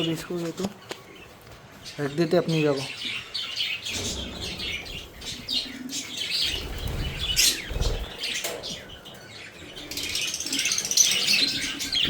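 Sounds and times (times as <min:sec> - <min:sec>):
budgerigars chirping: 0:01.9 - 0:12.0.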